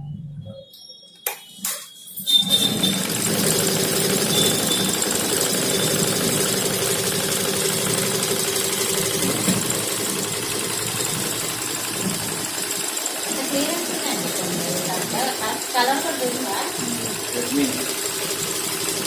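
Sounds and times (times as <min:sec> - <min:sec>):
embroidery machine running: 0:02.3 - 0:19.0.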